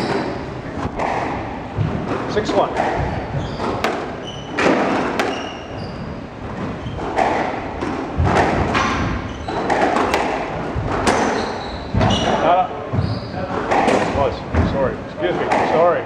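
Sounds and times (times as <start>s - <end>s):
shoes squeaking on hardwood floor: 0.0s - 1.1s, 1.8s - 13.9s
squash ball hitting racquets and walls: 0.0s - 16.0s.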